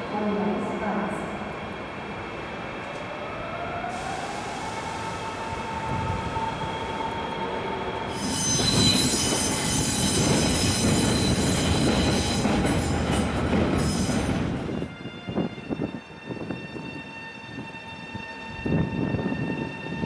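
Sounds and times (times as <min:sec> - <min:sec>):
train wheels squealing on rails: 0:03.8 - 0:20.0.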